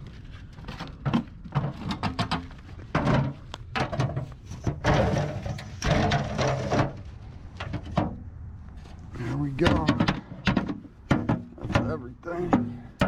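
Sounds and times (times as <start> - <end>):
metal scraping: 0.0 - 13.0
scrap metal knocks and clatters: 0.0 - 13.0.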